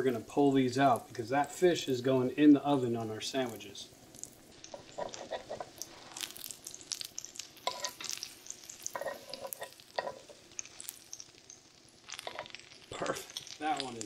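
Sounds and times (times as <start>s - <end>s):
fish fillets sizzling in oil: 0.0s - 14.0s.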